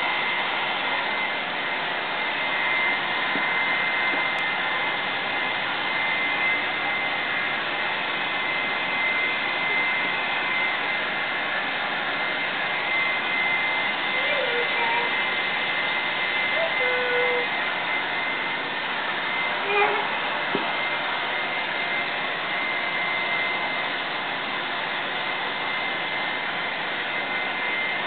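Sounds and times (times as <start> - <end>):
thin high whine: 0.0 - 28.0.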